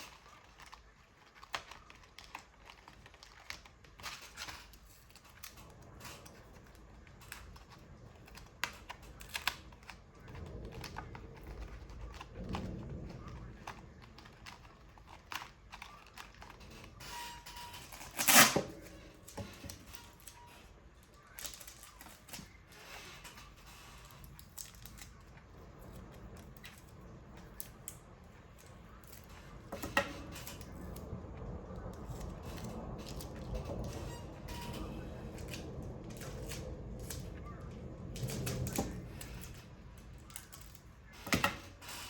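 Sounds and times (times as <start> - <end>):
loud paper crackle: 0.0 - 42.0
paper rustling: 0.0 - 42.0.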